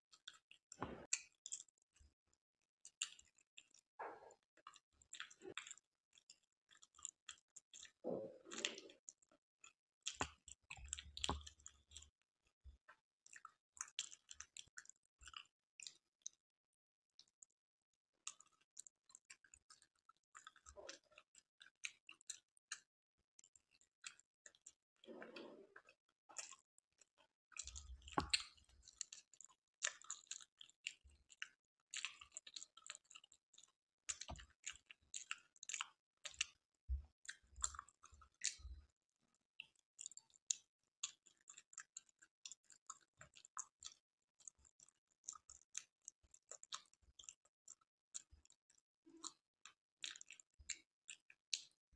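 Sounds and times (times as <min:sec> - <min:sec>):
chewing mouth clicks: 0:00.1 - 0:02.1, 0:02.8 - 0:12.1, 0:13.2 - 0:16.4, 0:18.2 - 0:36.6, 0:37.2 - 0:38.9, 0:39.6 - 0:51.8.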